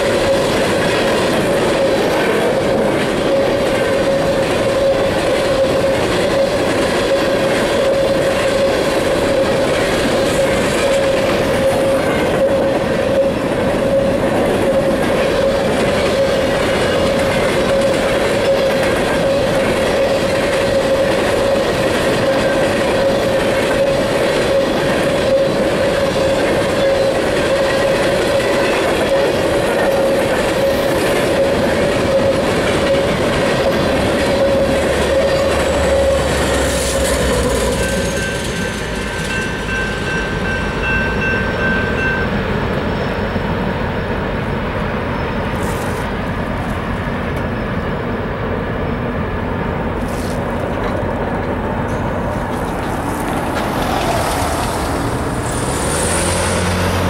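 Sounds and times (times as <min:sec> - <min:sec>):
train wheels clattering over rails: 0:00.0 - 0:47.8, 0:49.8 - 0:57.0
diesel locomotive passing: 0:00.0 - 0:57.0.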